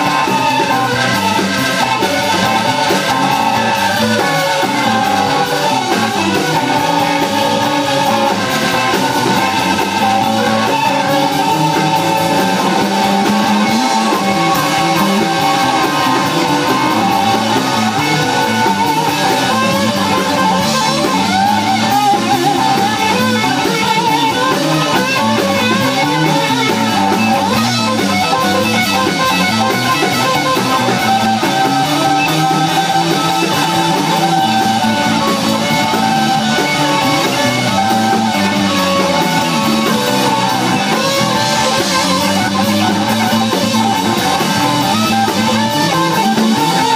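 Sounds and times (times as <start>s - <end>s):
bass guitar: 0.0s - 46.9s
drum kit: 0.0s - 46.9s
electric guitar: 0.0s - 46.9s.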